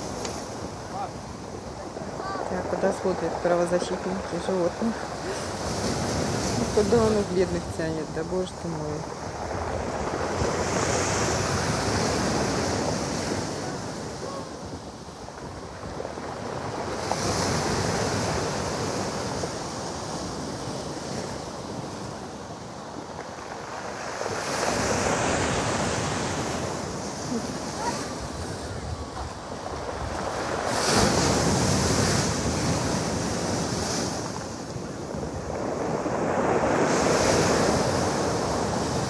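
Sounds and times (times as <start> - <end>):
surf breaking on pebble beach: 0.0 - 39.0.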